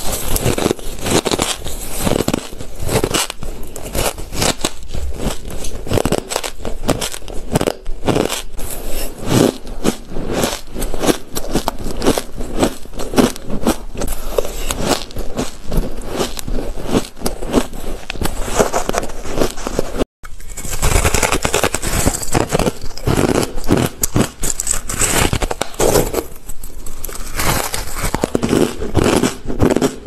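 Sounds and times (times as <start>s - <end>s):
crushed ice being chewed: 0.0s - 30.0s.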